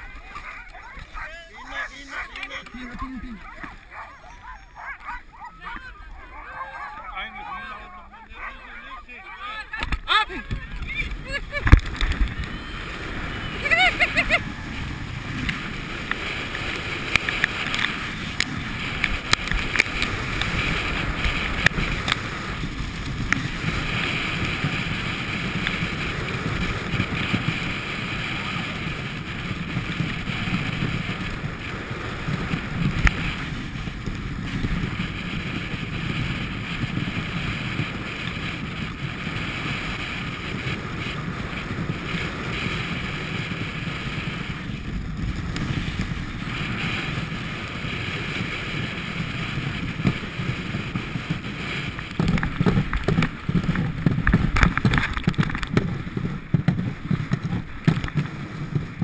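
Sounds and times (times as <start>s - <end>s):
sled rattling on rough ground: 0.0s - 59.0s
sled runners scraping over ice: 0.0s - 59.0s
wind buffeting microphone: 0.0s - 59.0s.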